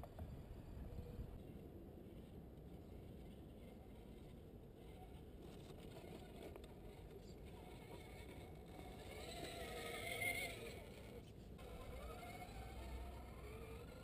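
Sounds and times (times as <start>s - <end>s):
electric motor and gears whining: 2.1s - 14.0s.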